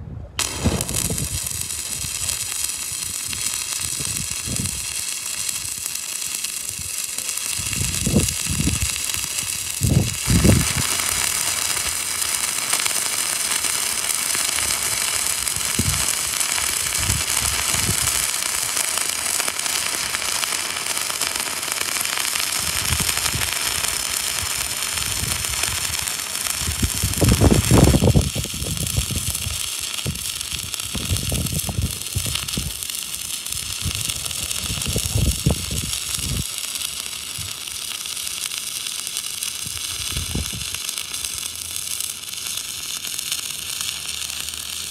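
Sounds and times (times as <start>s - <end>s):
welding arc crackling hiss: 0.4s - 44.9s
welding arc pops: 0.4s - 44.9s.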